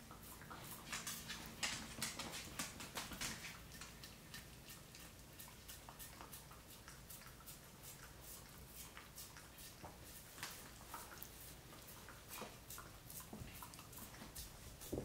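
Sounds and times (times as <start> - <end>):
dog licking and lapping: 0.0 - 15.0.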